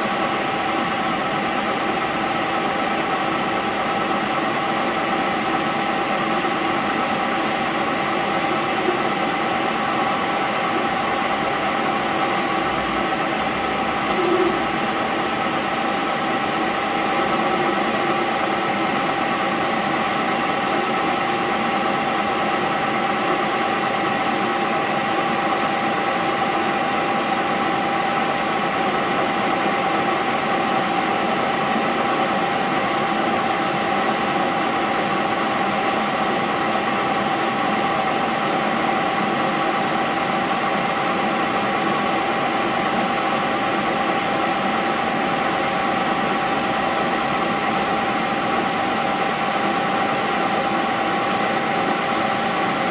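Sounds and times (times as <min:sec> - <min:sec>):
metal lathe whining: 0:00.0 - 0:52.9.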